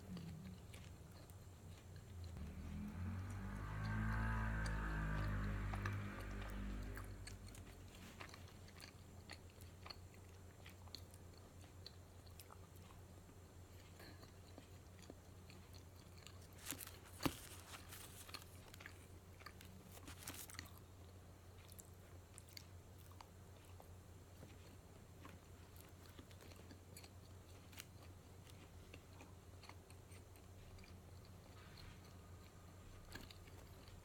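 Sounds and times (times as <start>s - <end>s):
close chewing and biting: 0.0s - 34.0s.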